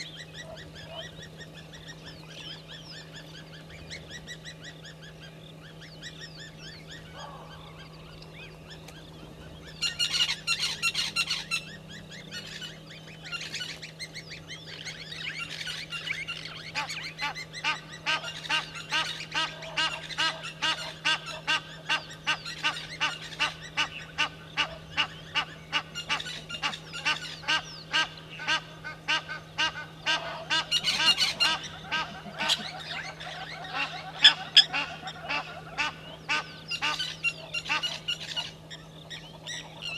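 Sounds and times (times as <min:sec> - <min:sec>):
lapwings calling: 0:00.0 - 0:39.9.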